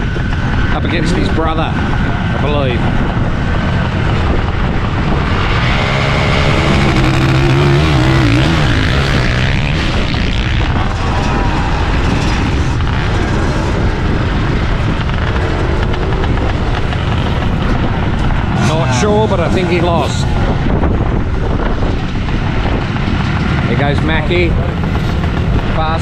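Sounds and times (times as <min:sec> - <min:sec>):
motorcycle engines revving hard: 0:00.0 - 0:26.0.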